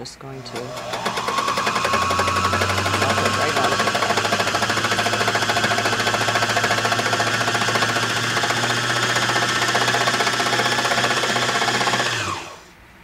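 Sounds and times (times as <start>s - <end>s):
needle-felting machine running: 0.3s - 12.7s.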